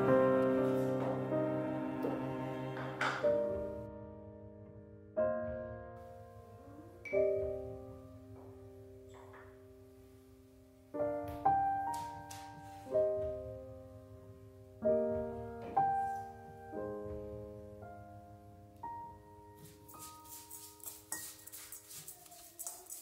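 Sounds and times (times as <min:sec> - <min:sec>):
soft solo piano music: 0:00.0 - 0:20.1.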